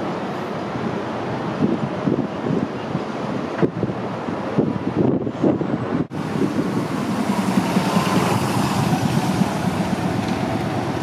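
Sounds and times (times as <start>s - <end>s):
city street traffic: 0.0s - 11.0s
wind on microphone: 1.2s - 11.0s.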